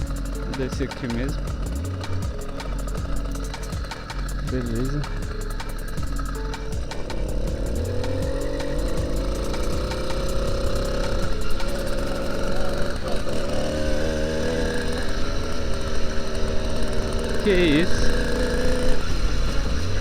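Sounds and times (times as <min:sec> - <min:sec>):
motorized bicycle engine accelerating: 0:00.0 - 0:20.0.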